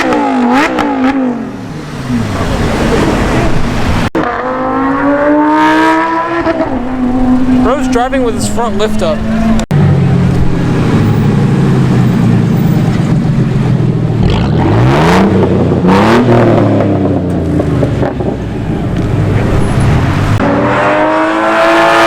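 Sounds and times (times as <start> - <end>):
sports car engines revving: 0.0 - 22.0.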